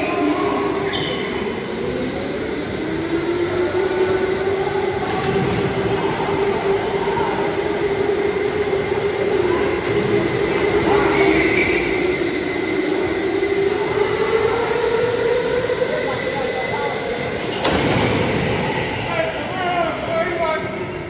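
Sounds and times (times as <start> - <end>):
electric go-kart motor whine: 0.0 - 19.0.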